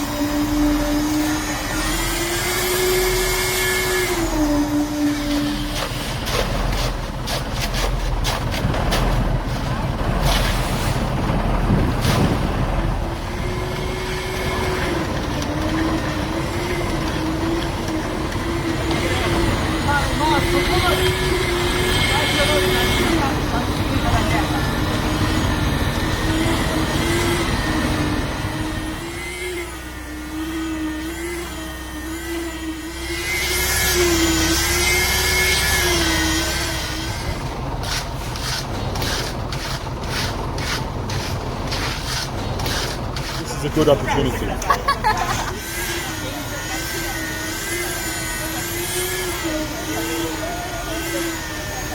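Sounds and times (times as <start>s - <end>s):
motor running steadily: 0.0s - 51.9s.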